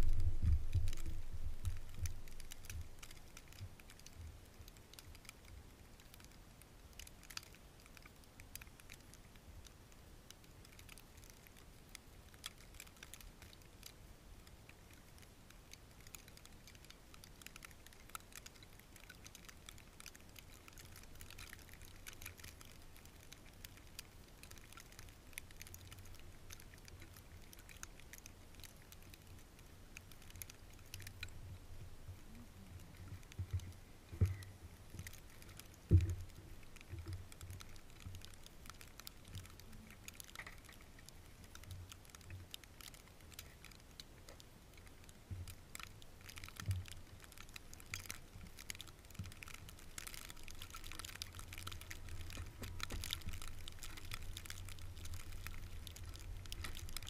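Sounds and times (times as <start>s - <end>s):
light ticks and patter: 0.0s - 57.0s.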